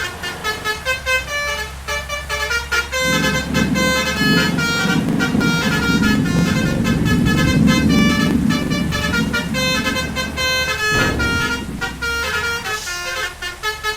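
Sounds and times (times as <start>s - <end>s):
engine rumble: 0.0s - 13.9s
musical air horn playing tune: 0.0s - 13.9s.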